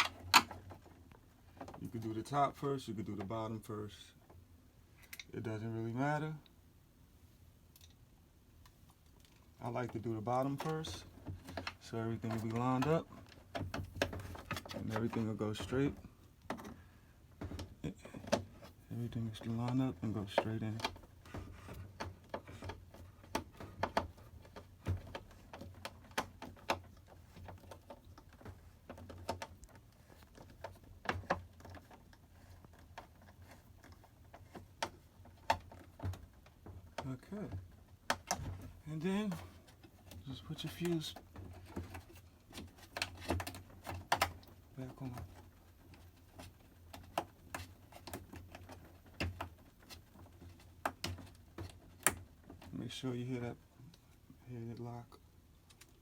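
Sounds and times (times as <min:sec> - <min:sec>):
light plastic clicks and knocks: 0:08.6 - 0:56.0.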